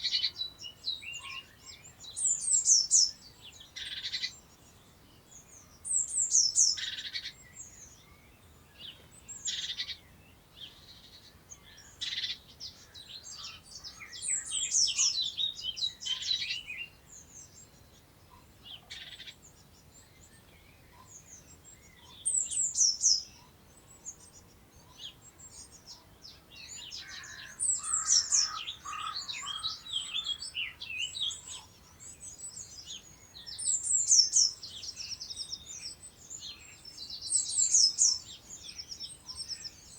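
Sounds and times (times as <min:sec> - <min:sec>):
bird calls and chirps: 0:00.0 - 0:39.9
songbirds singing: 0:00.0 - 0:39.9.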